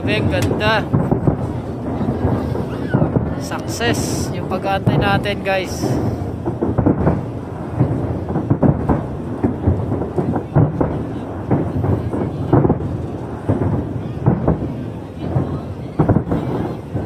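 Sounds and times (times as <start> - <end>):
continuous rumble: 0.0 - 17.0
fireworks booming: 0.0 - 17.0.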